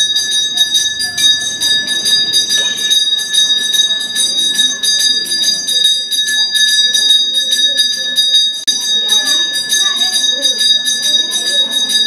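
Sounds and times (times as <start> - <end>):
hand bell ringing rapidly: 0.0 - 12.0.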